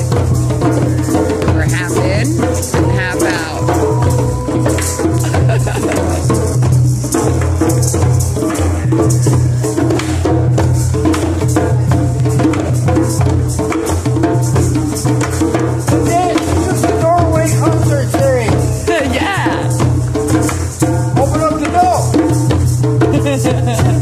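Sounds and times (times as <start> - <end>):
shaker rattling: 0.0 - 9.8, 10.8 - 24.0
hand drums playing: 0.0 - 24.0.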